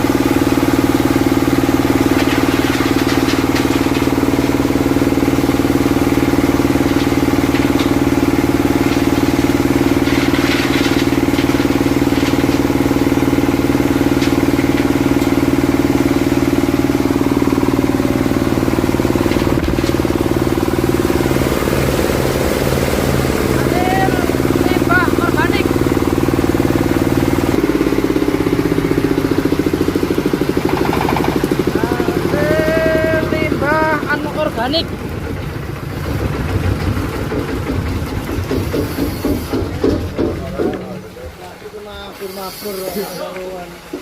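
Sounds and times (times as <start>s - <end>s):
diesel engine running: 0.0s - 44.0s
machine clattering: 0.9s - 41.4s.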